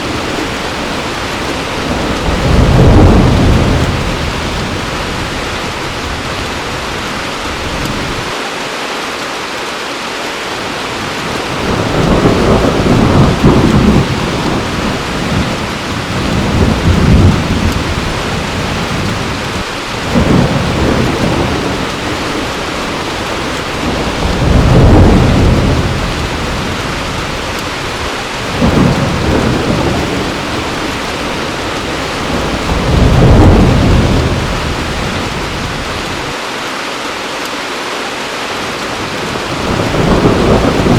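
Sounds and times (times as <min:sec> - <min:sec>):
low rumbles of thunder: 0:00.0 - 0:06.9, 0:11.0 - 0:36.4, 0:39.0 - 0:40.9
heavy rain falling: 0:00.0 - 0:40.9.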